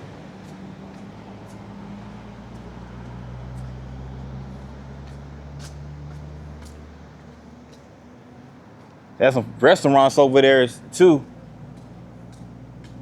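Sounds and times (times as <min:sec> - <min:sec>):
car engine passing slowly: 0:00.0 - 0:13.0.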